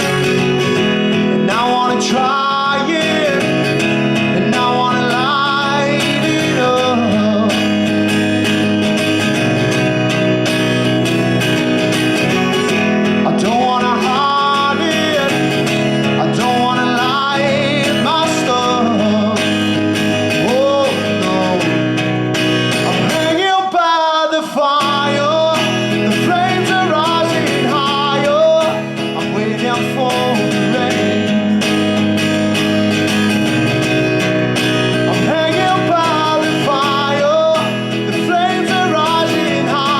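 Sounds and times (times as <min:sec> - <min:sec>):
man singing: 0:00.0 - 0:32.3, 0:33.1 - 0:39.9
strummed acoustic guitar: 0:00.0 - 0:39.9.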